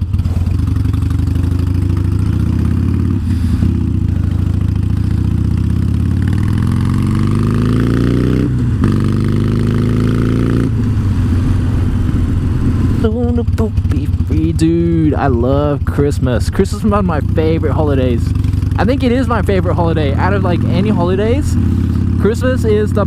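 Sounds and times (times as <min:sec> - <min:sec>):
motorcycle accelerating: 0:00.0 - 0:23.0.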